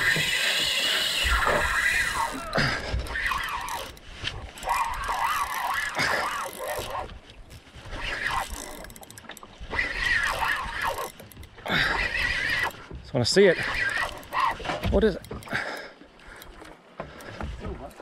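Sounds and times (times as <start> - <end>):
fishing reel whirring: 0.0 - 7.2, 7.8 - 12.8, 13.6 - 16.6.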